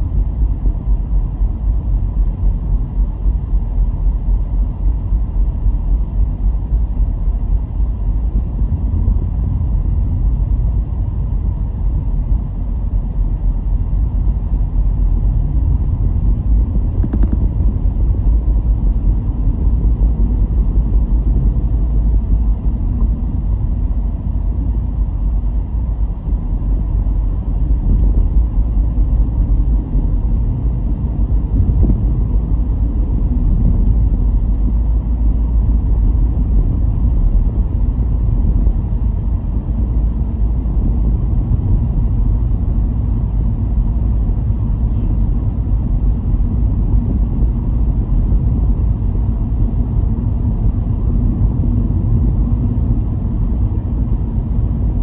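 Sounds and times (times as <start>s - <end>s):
car driving with road noise: 0.0s - 55.0s.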